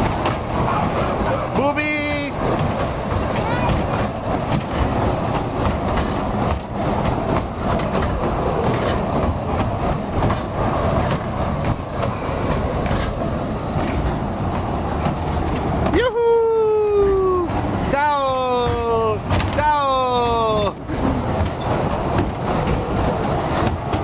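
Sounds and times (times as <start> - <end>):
small train rumbling and rattling: 0.0 - 24.0.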